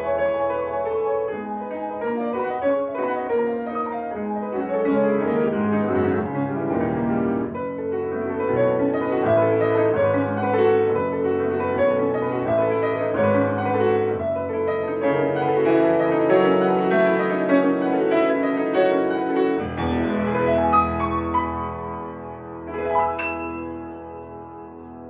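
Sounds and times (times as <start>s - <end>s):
solo piano classical music: 0.0s - 25.0s.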